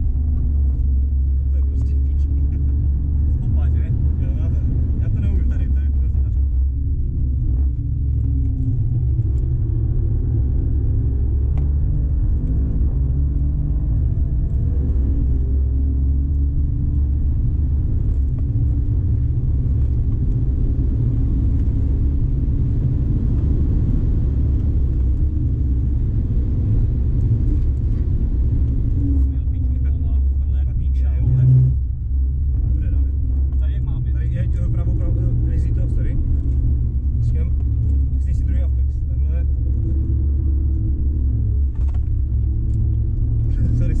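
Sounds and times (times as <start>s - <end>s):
car engine rumbling and revving: 0.0s - 44.0s
tyre and road noise: 0.0s - 44.0s.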